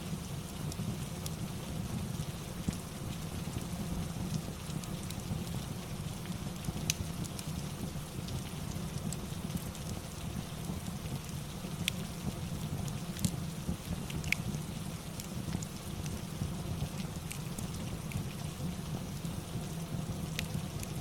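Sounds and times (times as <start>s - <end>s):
steady rain: 0.0s - 21.0s
fireplace crackling and popping: 0.2s - 21.0s.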